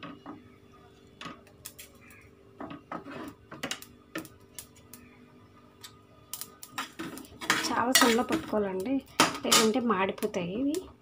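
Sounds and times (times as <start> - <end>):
seeds crackling in a pot: 0.0 - 11.0.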